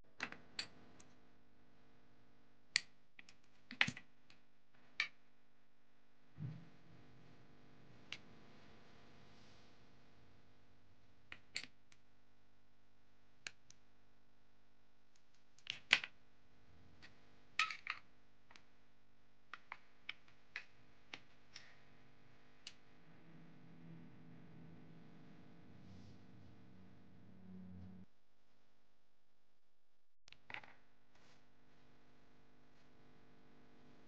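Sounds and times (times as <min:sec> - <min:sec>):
faint steady hum: 0:00.1 - 0:29.5.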